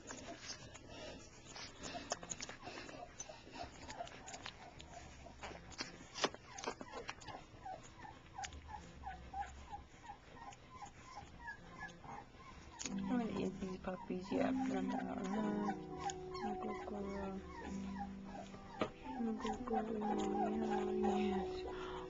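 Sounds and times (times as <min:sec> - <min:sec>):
puppies whimpering and squeaking: 0:00.0 - 0:22.0.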